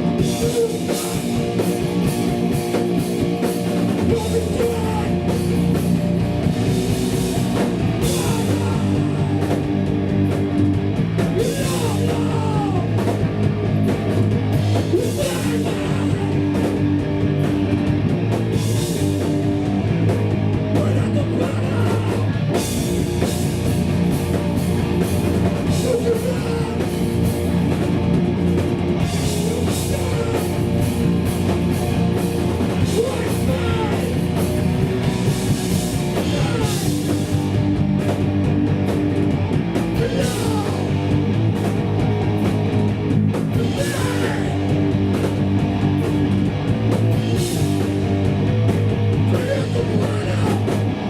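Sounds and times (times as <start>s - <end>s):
punk band playing loud and fast: 0.0s - 51.0s.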